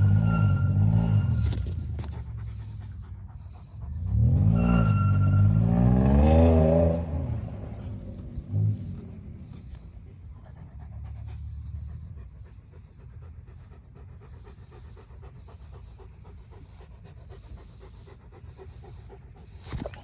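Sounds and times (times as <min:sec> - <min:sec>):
dog panting: 0:01.3 - 0:05.4, 0:06.8 - 0:20.0.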